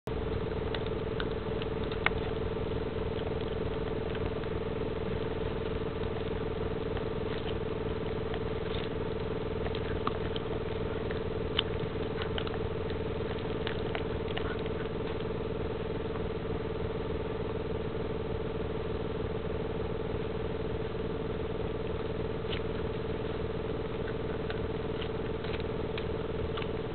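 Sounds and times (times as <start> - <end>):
puppy teeth gnawing rawhide: 0.1 - 26.9
steady hum: 0.1 - 26.9.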